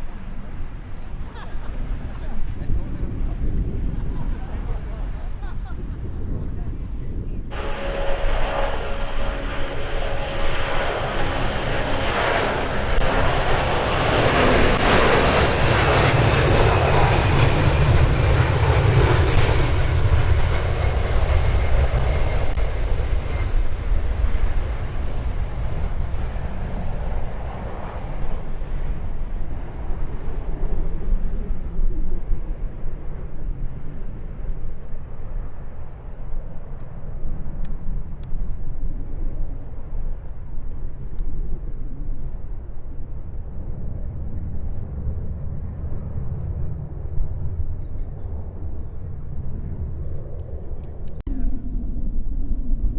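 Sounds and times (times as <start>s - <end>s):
airliner passing overhead: 0.0s - 52.9s
wind buffeting microphone: 0.0s - 52.9s.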